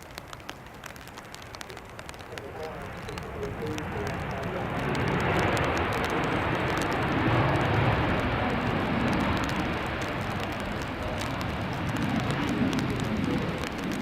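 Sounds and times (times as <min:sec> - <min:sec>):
jet engines at reverse thrust: 0:02.0 - 0:14.0.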